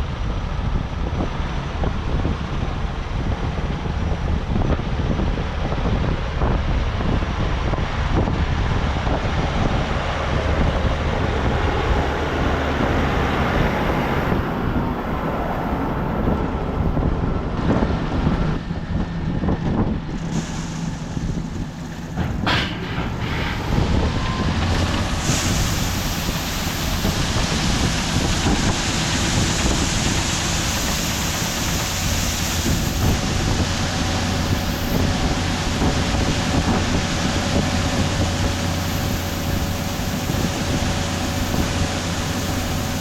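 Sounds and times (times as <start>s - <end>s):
heavy machinery engine running: 0.0s - 43.0s
wind on microphone: 0.0s - 43.0s.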